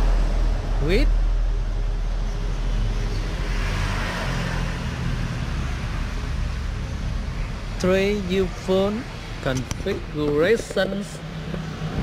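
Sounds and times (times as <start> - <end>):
vehicle passing: 0.0 - 10.2
road traffic rumble: 0.0 - 12.0.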